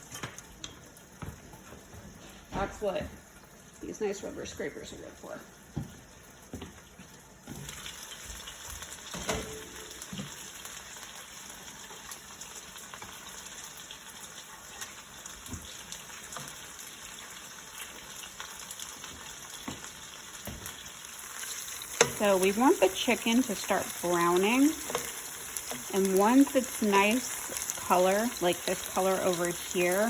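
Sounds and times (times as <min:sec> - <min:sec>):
chicken frying in hot oil: 0:00.0 - 0:30.0.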